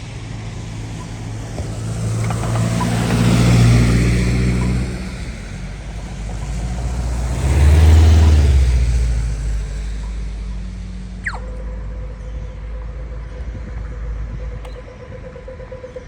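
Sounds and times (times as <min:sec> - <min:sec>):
motor vehicle passing: 0:00.0 - 0:15.8.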